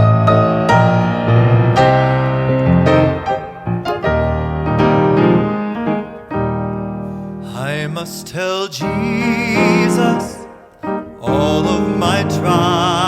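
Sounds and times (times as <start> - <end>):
solo piano chords: 0.0 - 13.0.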